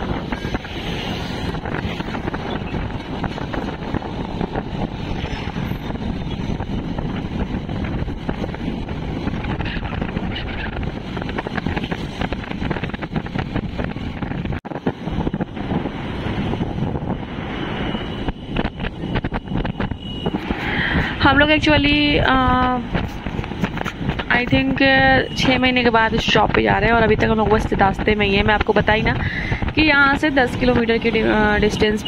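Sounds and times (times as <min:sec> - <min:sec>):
road noise: 0:00.0 - 0:32.0
wind rushing over microphone: 0:00.0 - 0:32.0.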